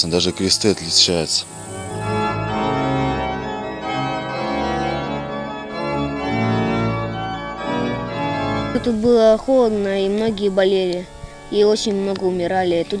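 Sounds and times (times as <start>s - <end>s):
slow sustained music chords: 0.0s - 13.0s.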